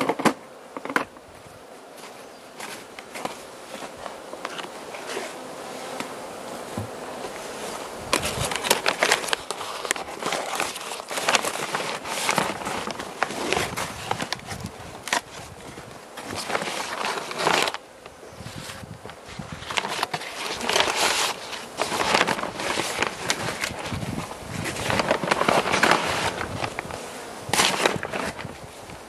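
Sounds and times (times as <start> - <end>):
hive handling scrapes and knocks: 0.0 - 29.0
honey bees buzzing: 0.0 - 29.0.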